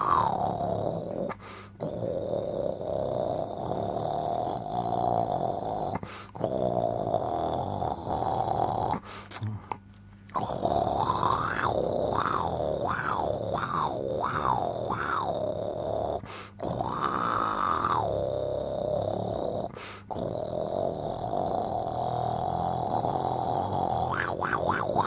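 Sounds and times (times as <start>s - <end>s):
person snoring: 0.0s - 9.7s, 10.3s - 25.0s.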